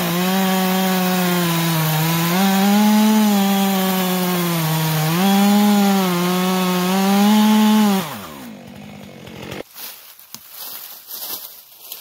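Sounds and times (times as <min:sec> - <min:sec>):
chainsaw cutting log: 0:00.0 - 0:09.7.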